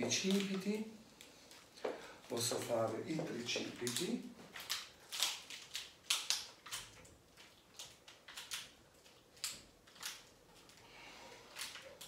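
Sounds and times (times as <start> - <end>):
plastic bottles crinkling: 0.0 - 10.8.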